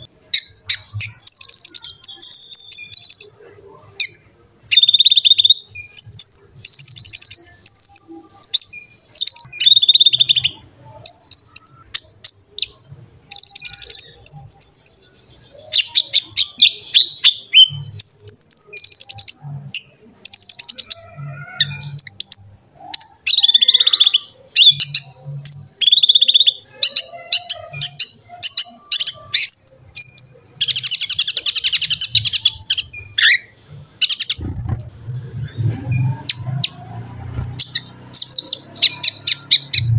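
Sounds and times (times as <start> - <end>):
sunbird singing high chirps: 0.0 - 34.4, 35.4 - 39.9.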